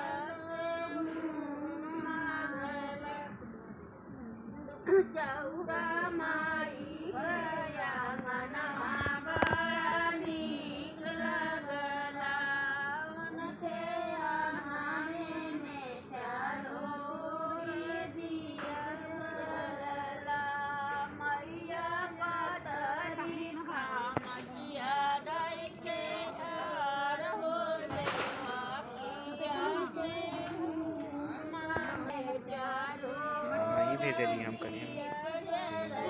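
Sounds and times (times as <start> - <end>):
person singing devotional song: 0.0 - 3.7, 4.4 - 36.0.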